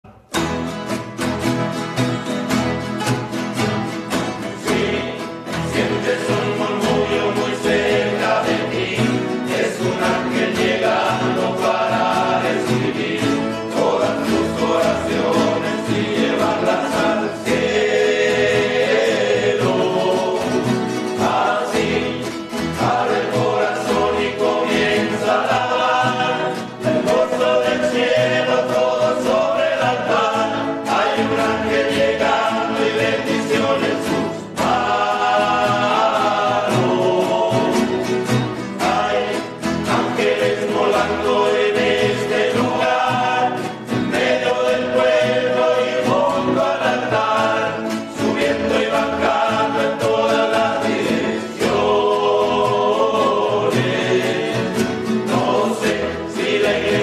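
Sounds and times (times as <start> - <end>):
strummed acoustic guitars: 0.0 - 57.0
men singing a hymn: 4.3 - 57.0.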